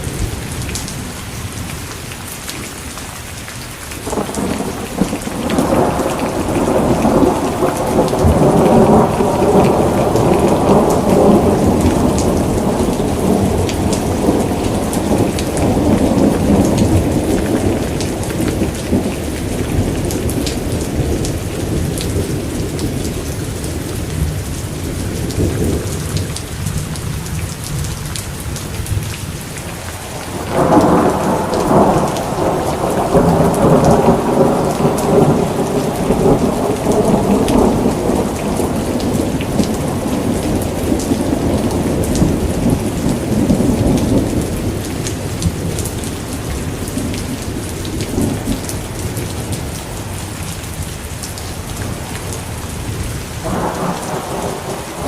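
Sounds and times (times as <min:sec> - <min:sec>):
steady rain: 0:00.0 - 0:55.0
thunder rumbling: 0:04.0 - 0:27.0, 0:30.0 - 0:50.1, 0:51.8 - 0:55.0.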